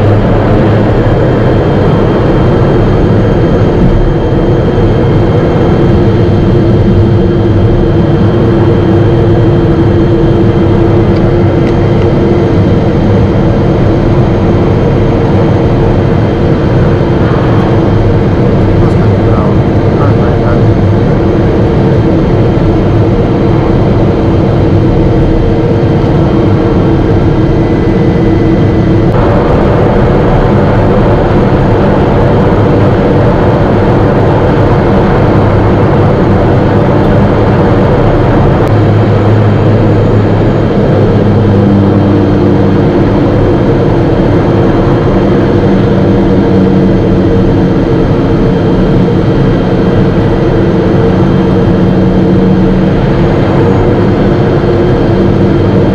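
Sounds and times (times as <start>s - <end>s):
propeller aircraft engine running: 0.0s - 55.9s.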